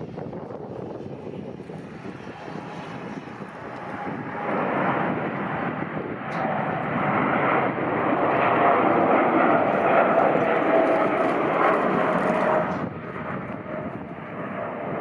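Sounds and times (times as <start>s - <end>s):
jet engines roaring at takeoff: 0.0s - 15.0s
steady whine: 0.0s - 15.0s.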